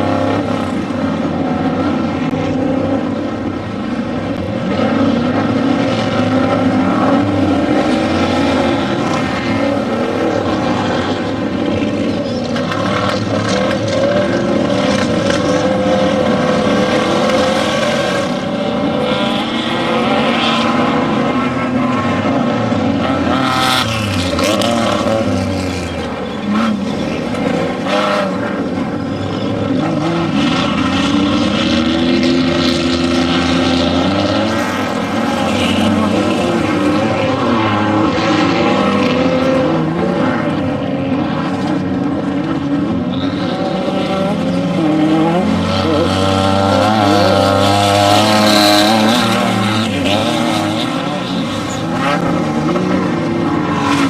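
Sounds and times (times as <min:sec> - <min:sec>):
race vehicle engines revving: 0:00.0 - 0:54.0.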